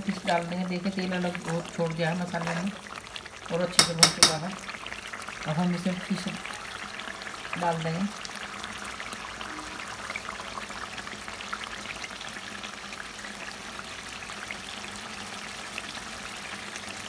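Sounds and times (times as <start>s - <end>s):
masala sizzling in hot oil: 0.0s - 17.0s.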